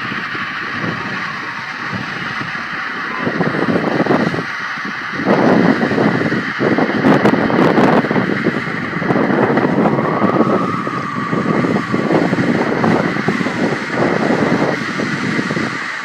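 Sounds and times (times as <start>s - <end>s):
high whistling wind howl: 0.0s - 16.0s
strong wind rushing: 0.0s - 16.0s.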